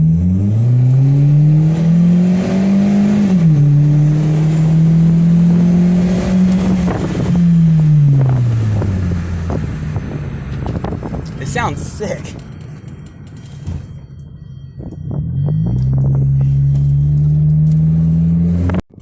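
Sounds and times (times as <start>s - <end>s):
car engine accelerating: 0.0s - 11.6s, 12.4s - 19.0s.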